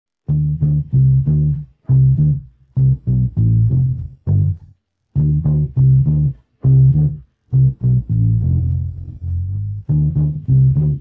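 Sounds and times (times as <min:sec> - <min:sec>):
electric bass guitar riff: 0:00.2 - 0:11.0.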